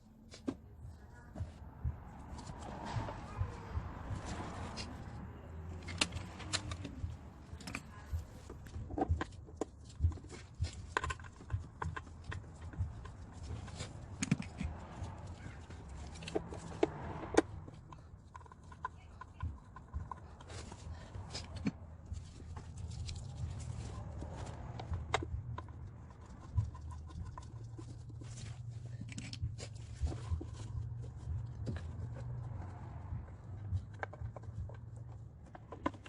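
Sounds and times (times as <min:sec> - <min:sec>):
hand tools clicking and knocking: 0:01.3 - 0:36.0.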